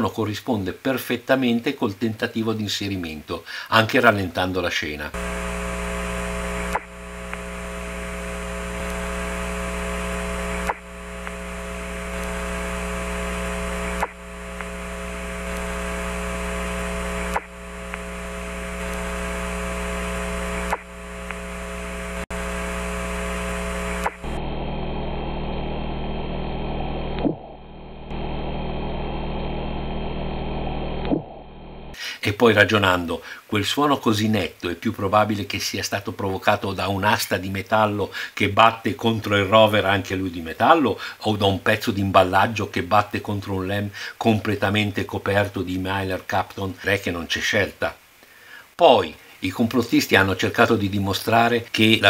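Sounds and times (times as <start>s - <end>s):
radio hum and hiss: 0.0s - 27.3s, 28.1s - 52.0s.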